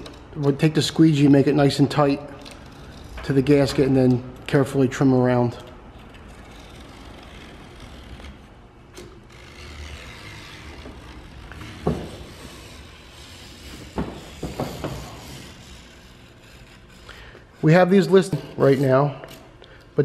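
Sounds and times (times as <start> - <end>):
knife scraping along glass: 1.5 - 4.5, 5.4 - 19.6.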